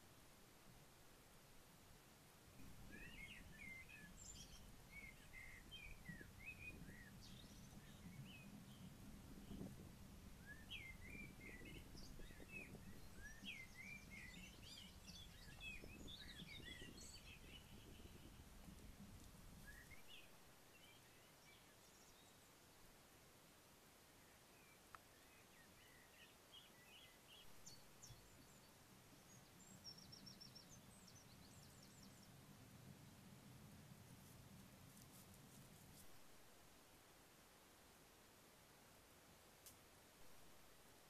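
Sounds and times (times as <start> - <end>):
faint bird song: 0.0 - 41.0
low steady hum: 0.0 - 41.0.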